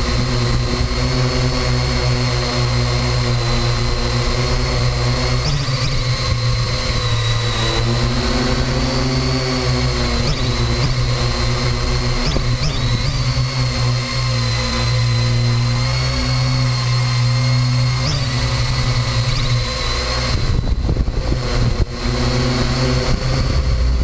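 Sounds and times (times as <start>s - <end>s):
drone motors and propellers whining: 0.0s - 24.0s.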